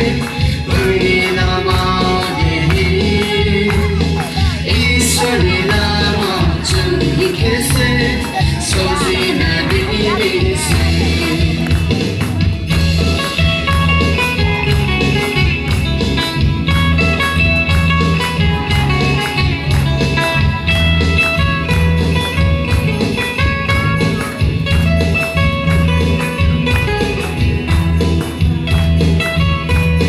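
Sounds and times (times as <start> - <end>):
heavy bass beat: 0.0 - 30.0
loud music with guitar: 0.0 - 30.0.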